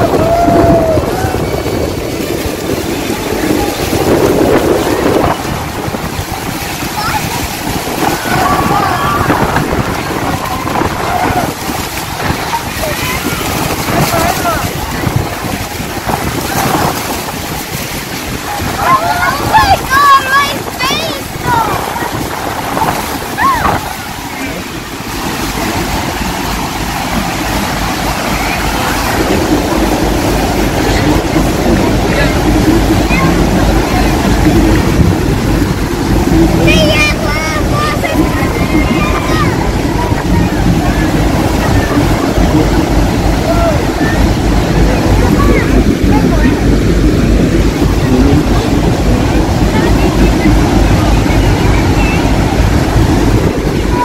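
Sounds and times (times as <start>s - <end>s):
boat and churning water rumble: 0.0s - 54.0s
wind buffeting microphone: 0.0s - 54.0s.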